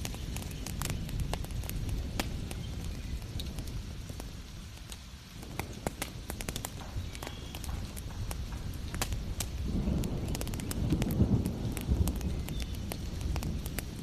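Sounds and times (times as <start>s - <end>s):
rain hiss: 0.0s - 14.0s
wood fire crackling: 0.0s - 14.0s.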